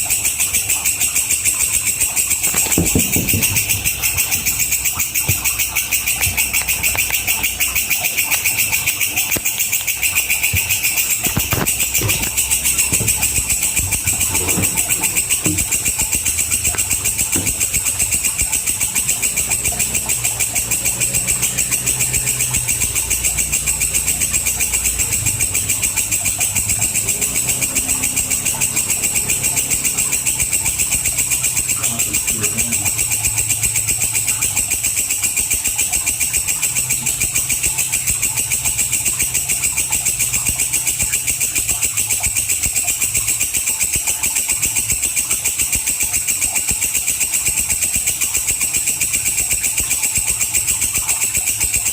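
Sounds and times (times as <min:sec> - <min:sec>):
insect high-pitched pulsing buzz: 0:00.0 - 0:51.9.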